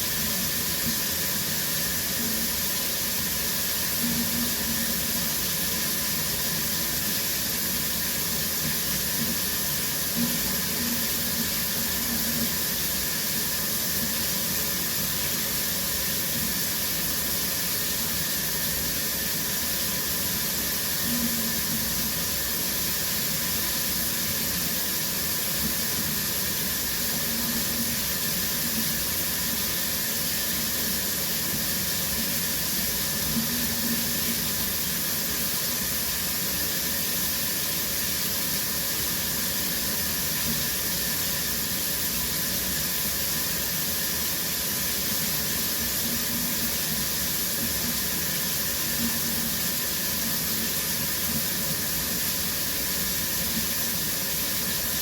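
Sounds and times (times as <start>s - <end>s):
shower spray hissing: 0.0s - 55.0s.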